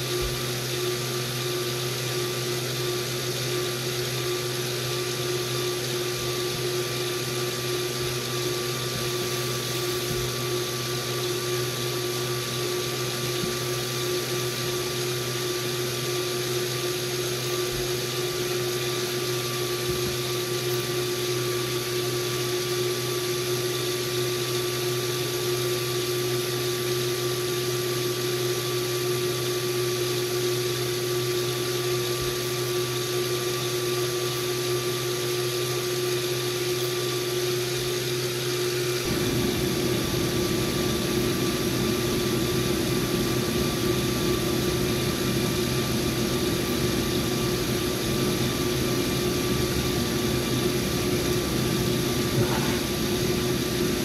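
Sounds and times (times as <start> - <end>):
motor humming with high hiss: 0.0 - 54.0.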